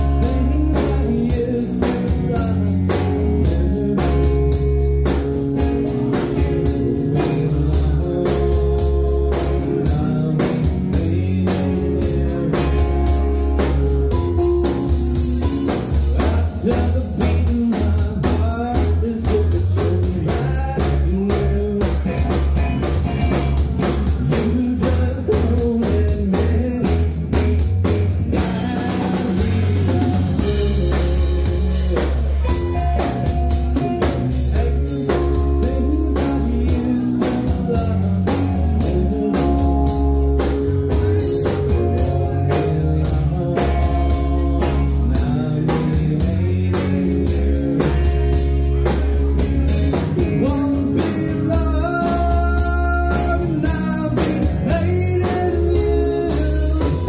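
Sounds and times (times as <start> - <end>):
drum kit beat: 0.0 - 57.0
electric guitar: 0.0 - 57.0
heavy bass: 0.0 - 57.0
keyboard: 0.0 - 57.0.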